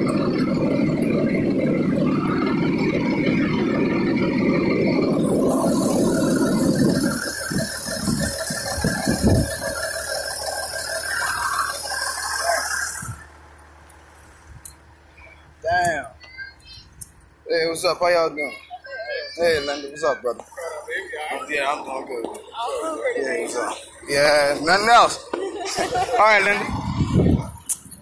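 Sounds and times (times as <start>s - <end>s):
fire engine rattling: 0.0s - 28.0s.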